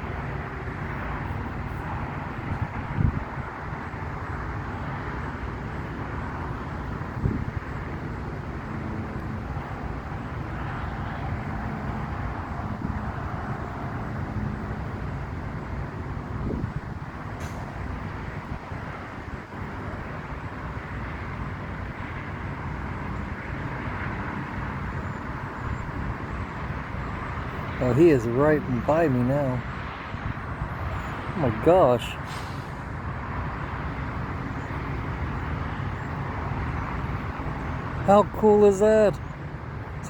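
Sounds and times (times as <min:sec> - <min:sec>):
road traffic rush: 0:00.0 - 0:40.0.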